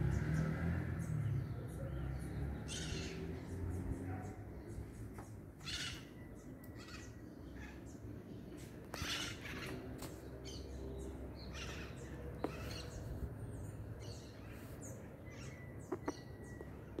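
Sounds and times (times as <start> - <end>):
birds harsh calls: 0.0 - 17.0.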